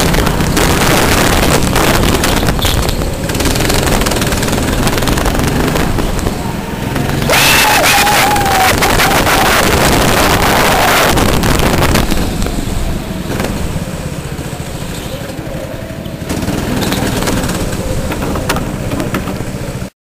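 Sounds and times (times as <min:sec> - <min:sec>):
go-kart engines running: 0:00.0 - 0:19.9.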